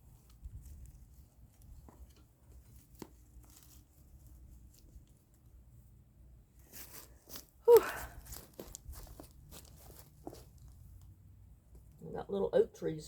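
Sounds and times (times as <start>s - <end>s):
faint clicks and rustles: 0.0s - 12.1s.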